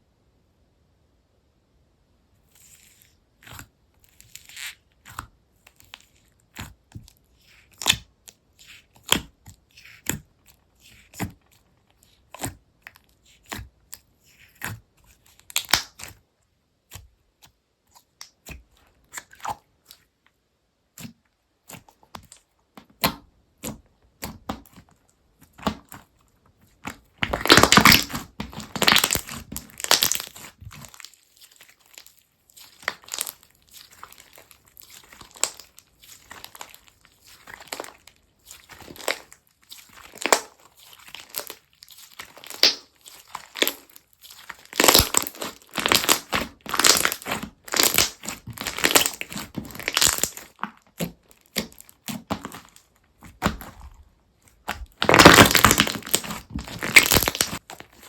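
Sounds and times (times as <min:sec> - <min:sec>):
slime squished by hand: 0:02.5 - 0:20.2, 0:20.9 - 0:58.0.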